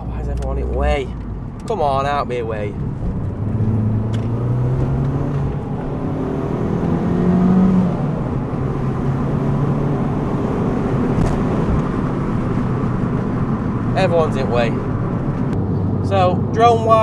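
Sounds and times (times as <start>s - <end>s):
car engine hum: 0.0s - 17.0s
road and wind noise: 0.0s - 17.0s.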